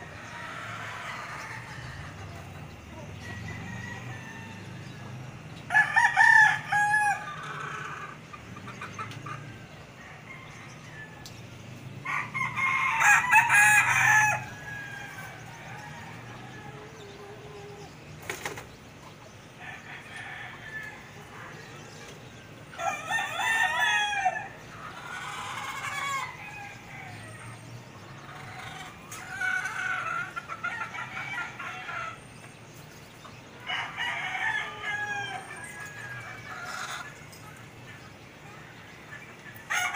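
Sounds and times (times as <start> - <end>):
roosters crowing: 0.0 - 39.9.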